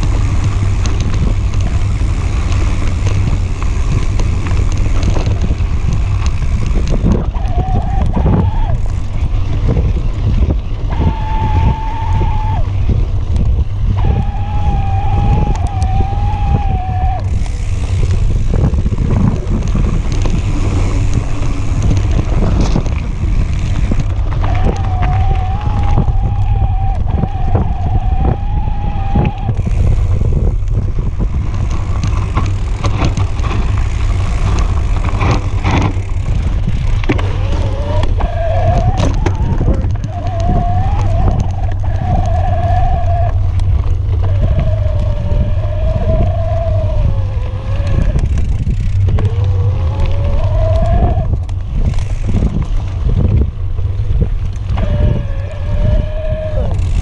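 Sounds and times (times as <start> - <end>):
bike frame rattles: 0.0 - 57.0
low rumble of wind and vibration: 0.0 - 57.0.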